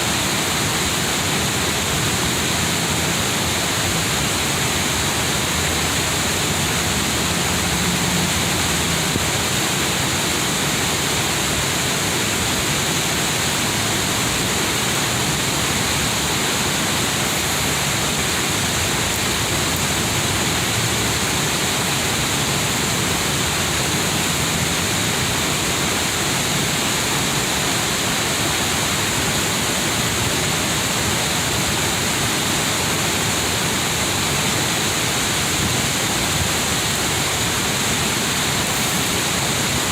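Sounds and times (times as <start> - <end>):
water rushing over cascade: 0.0 - 39.9.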